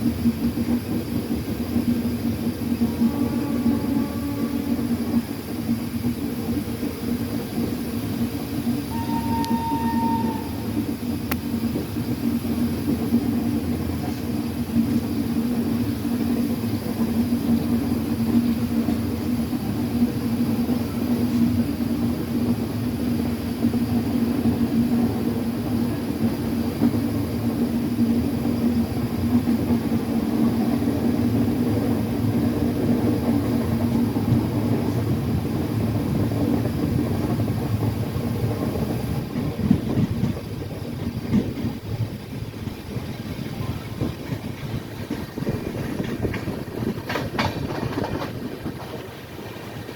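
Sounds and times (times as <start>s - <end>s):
train rumbling: 0.0s - 49.9s.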